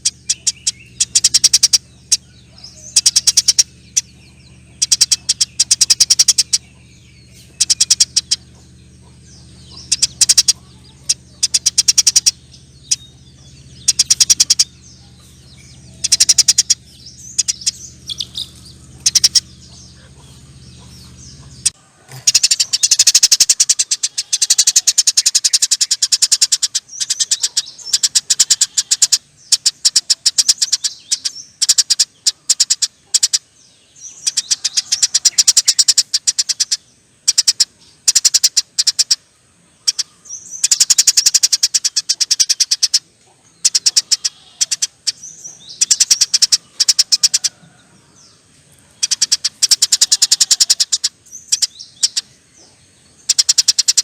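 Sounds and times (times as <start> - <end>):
low steady hum: 0.0 - 54.0
sparrow chattering: 0.0 - 54.0.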